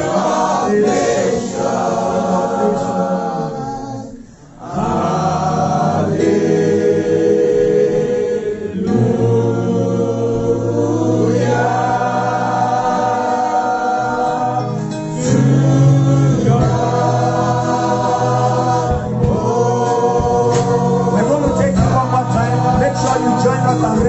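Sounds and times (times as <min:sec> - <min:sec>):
congregation singing: 0:00.0 - 0:24.0.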